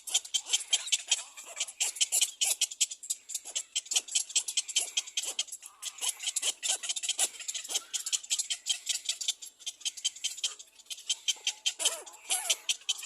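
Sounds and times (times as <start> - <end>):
cormorant clicking calls: 0.0 - 13.0.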